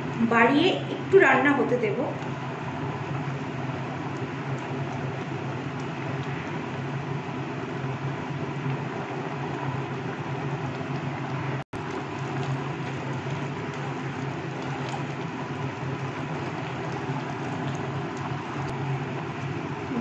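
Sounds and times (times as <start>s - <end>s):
syrup bubbling: 2.1s - 20.0s.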